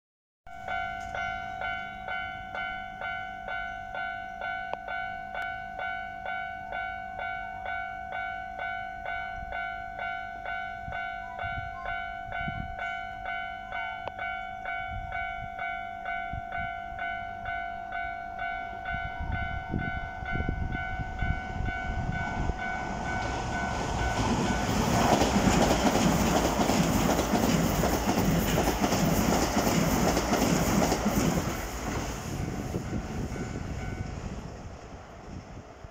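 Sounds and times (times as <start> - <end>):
level-crossing warning bell: 0.5 - 31.6, 32.4 - 34.4
electric train passing: 0.5 - 35.9.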